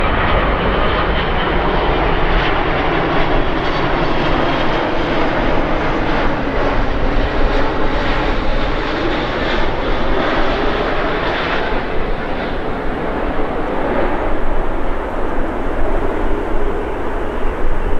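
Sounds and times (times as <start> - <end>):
jet airliner engines rumbling: 0.0 - 17.9.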